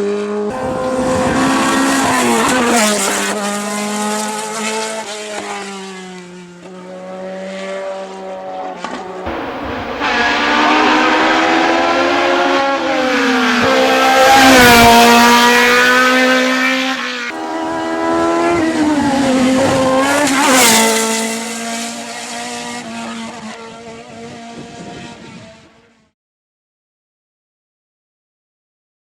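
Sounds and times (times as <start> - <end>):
race car engine at high revs: 0.0 - 26.1.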